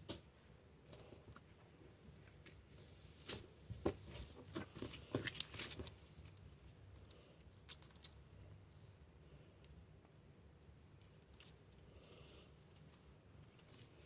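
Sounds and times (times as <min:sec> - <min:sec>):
rabbit pattering and rustling: 0:00.0 - 0:14.0.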